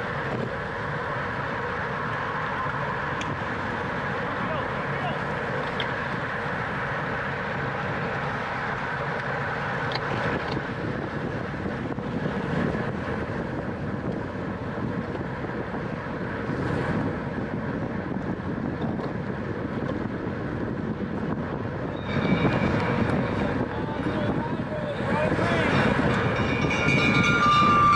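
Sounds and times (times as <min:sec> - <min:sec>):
rolling road noise: 0:00.0 - 0:27.9
wind rushing over microphone: 0:00.0 - 0:27.9.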